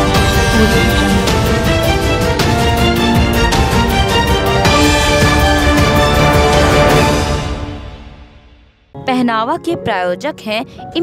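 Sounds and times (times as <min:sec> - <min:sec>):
news theme music: 0:00.0 - 0:09.1.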